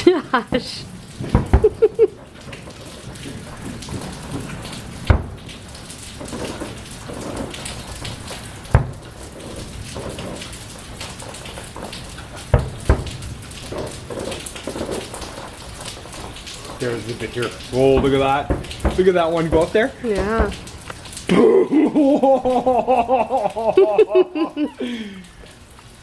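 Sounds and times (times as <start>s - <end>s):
fireworks crackling hiss: 0.0s - 26.0s
fireworks bangs: 0.5s - 21.4s.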